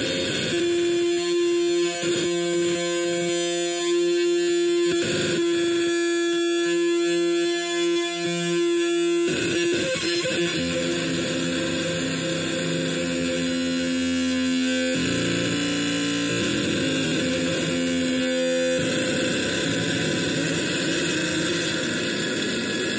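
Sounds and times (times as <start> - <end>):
electronic drone: 0.0 - 22.9.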